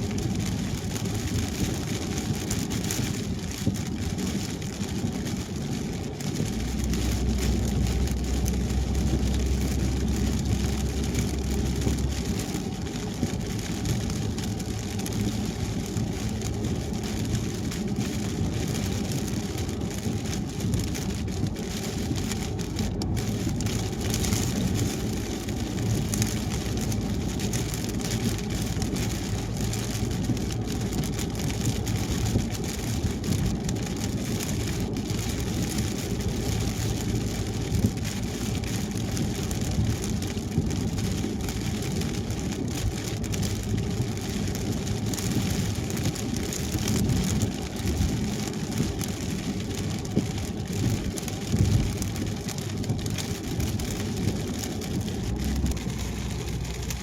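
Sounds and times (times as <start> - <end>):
rain falling on car: 0.0 - 57.0
tyres and engine rumble: 0.0 - 57.0.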